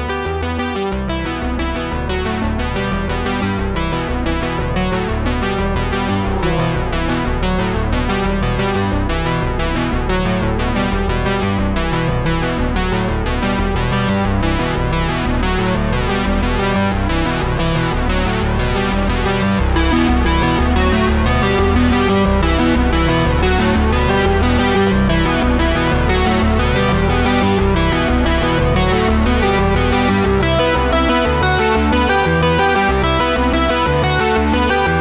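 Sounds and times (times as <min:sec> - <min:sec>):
synthesizer music with steady beat: 0:00.0 - 0:35.0.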